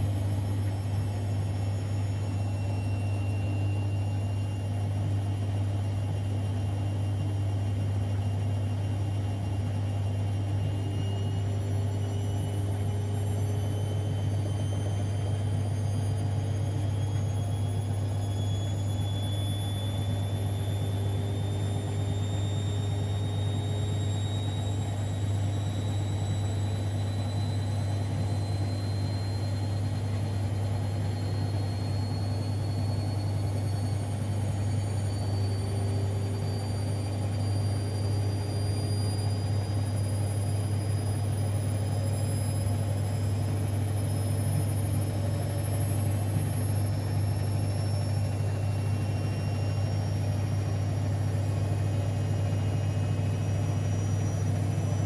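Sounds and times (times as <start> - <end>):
high motor whine: 0.0 - 55.0
washing machine spinning: 0.0 - 55.0.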